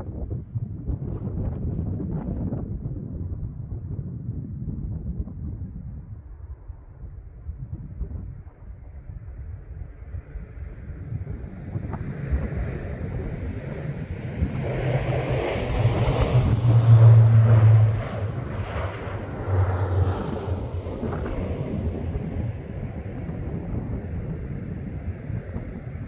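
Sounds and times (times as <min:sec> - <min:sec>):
wind on microphone: 0:00.0 - 0:26.0
turboprop plane passing: 0:00.2 - 0:26.0.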